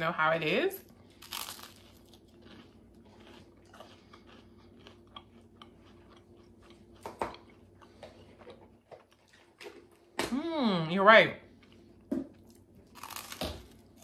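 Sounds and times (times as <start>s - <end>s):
person chewing toast: 0.9s - 10.2s, 11.5s - 14.0s.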